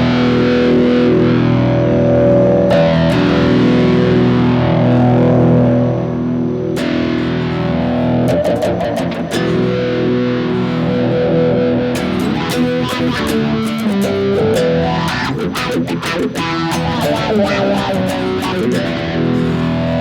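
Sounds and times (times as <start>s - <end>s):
overdriven electric guitar: 0.0s - 20.0s.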